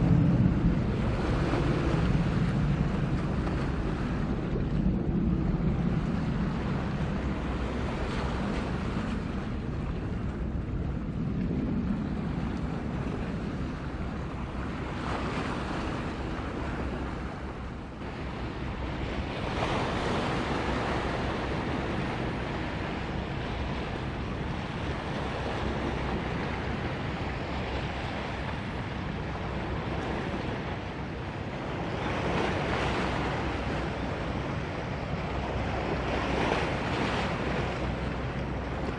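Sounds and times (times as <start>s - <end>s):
rushing harbour water: 0.0s - 38.9s
wind buffeting microphone: 0.0s - 38.9s.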